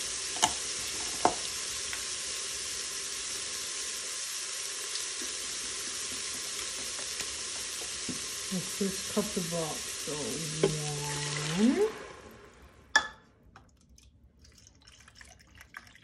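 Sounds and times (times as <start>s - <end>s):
vegetables sizzling in hot oil: 0.0s - 12.8s.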